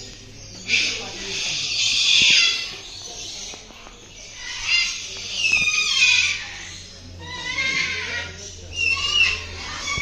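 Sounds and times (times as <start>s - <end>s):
caged birds calling: 0.0s - 10.0s.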